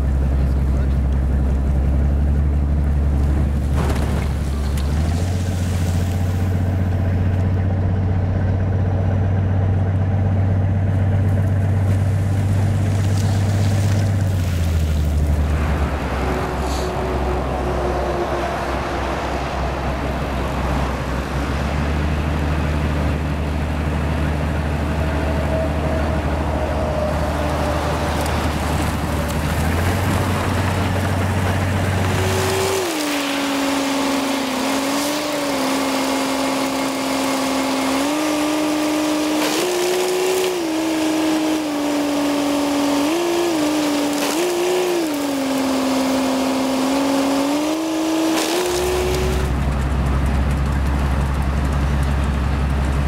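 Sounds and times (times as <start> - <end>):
snowplow engine droning: 0.0 - 53.0.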